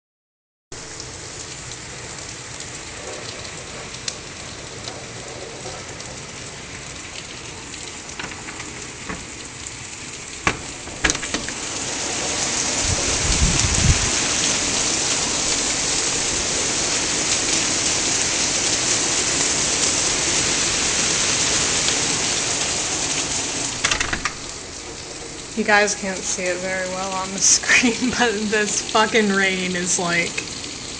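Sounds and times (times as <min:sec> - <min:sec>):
heavy rain pouring: 0:00.7 - 0:30.9.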